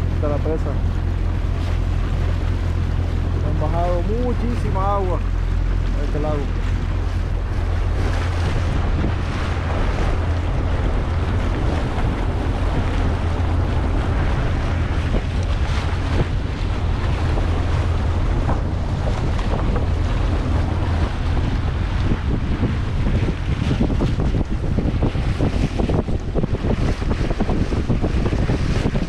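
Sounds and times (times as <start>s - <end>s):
steady low rumble: 0.0s - 29.0s
water washing against hull: 0.0s - 29.0s
wind buffeting microphone: 0.0s - 29.0s.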